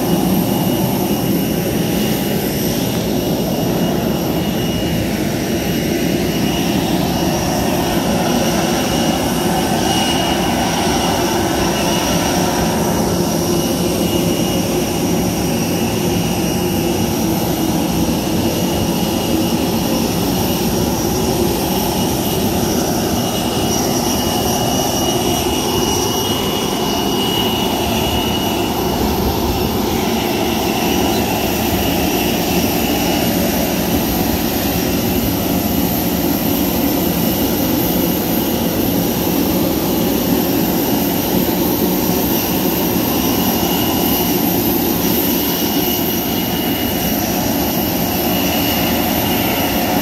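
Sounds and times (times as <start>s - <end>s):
jet engine whine: 0.0s - 50.0s.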